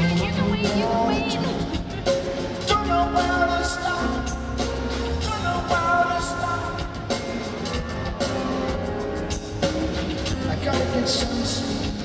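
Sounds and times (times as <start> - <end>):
drum and cymbal strikes: 0.0 - 12.0
live rock band: 0.0 - 12.0.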